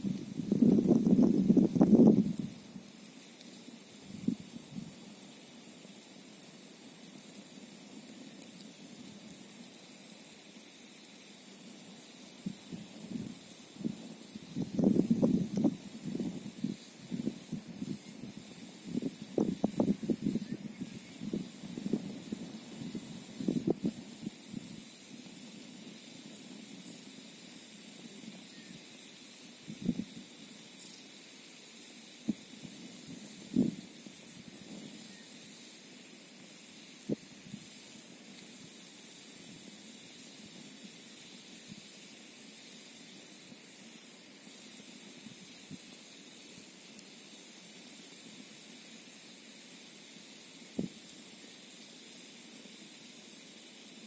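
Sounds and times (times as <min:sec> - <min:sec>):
fire popping and crackling: 0:00.0 - 0:51.3
campfire hissing: 0:00.0 - 0:54.0.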